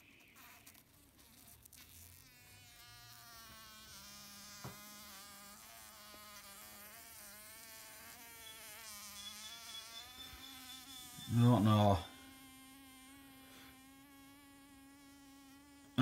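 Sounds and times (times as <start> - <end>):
fly buzzing: 0.0 - 16.0.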